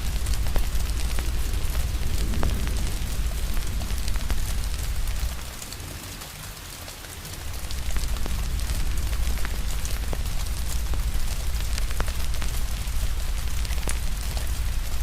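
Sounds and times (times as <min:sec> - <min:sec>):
low rumble: 0:00.0 - 0:06.0, 0:07.4 - 0:15.0
rain hiss: 0:00.0 - 0:15.0
wood fire crackling: 0:00.0 - 0:15.0.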